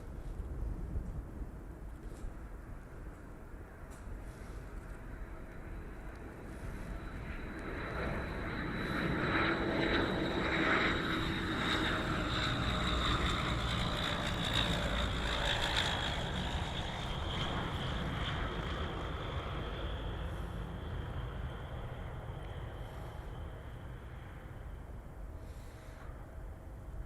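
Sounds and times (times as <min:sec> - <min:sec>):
propeller drone: 0:00.0 - 0:27.0
turboprop engine whine: 0:00.0 - 0:27.0.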